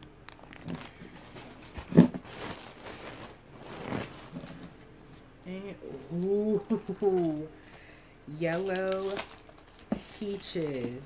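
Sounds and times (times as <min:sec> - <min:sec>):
plastic packaging crinkling: 0:00.0 - 0:04.9, 0:06.6 - 0:11.0.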